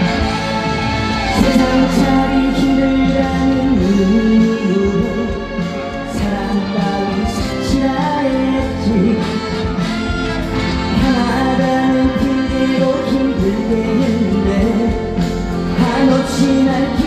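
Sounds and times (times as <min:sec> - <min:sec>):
backing band with melodic lead: 0:00.0 - 0:17.0.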